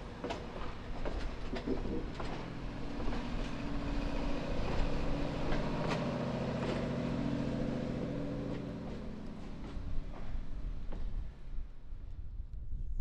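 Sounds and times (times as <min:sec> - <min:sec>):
train wheels clicking over rail joints: 0:00.0 - 0:11.5
train engine droning hum: 0:00.0 - 0:12.6.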